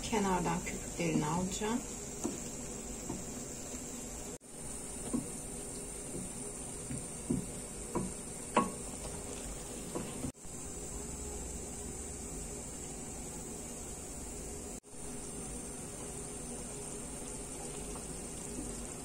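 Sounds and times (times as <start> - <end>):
jam boiling with soft pops: 0.0 - 19.0.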